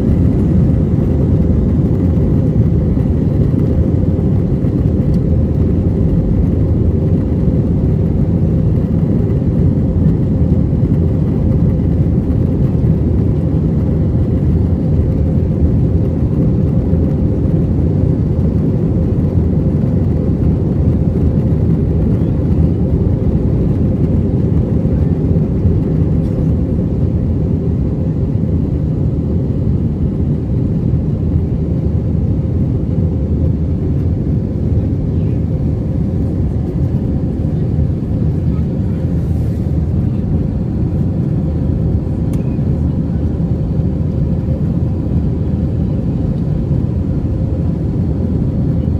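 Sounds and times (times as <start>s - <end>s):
jet engine and airflow rumble: 0.0s - 48.9s.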